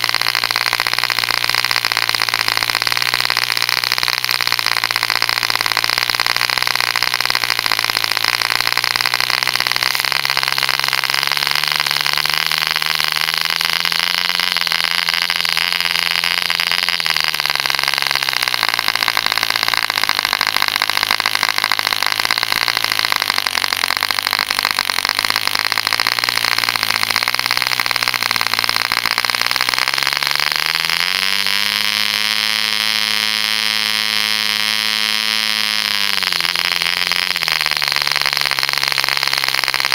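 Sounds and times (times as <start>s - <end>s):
model diesel engine buzzing: 0.0s - 39.9s.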